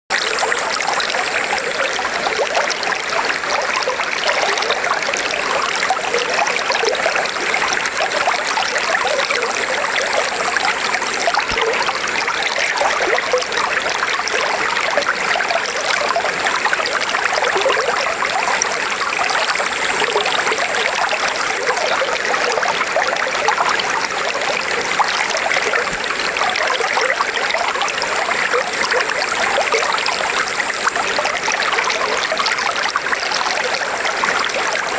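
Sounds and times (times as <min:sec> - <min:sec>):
river water flowing over rocks: 0:00.1 - 0:34.9.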